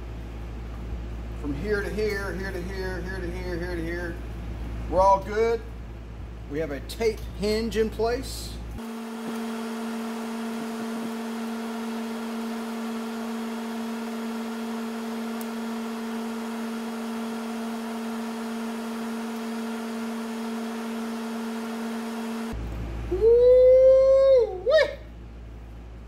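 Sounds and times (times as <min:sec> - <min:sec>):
electric fan humming: 0:00.0 - 0:26.0.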